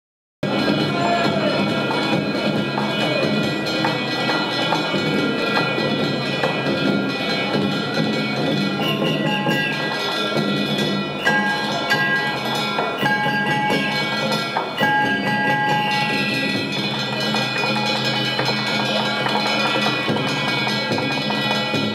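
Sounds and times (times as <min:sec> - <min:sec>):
ringing metallic strikes: 0:00.4 - 0:21.9
taiko drum beating: 0:00.4 - 0:21.9.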